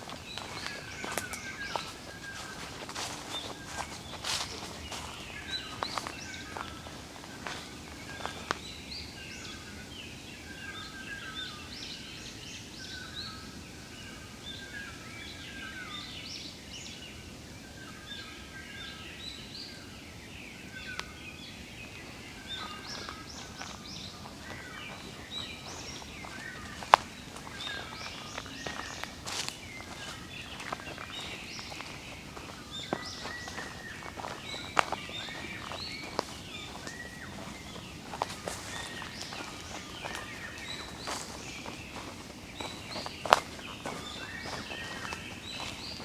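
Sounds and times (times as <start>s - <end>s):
wild birds chirping and trilling: 0.0s - 46.0s.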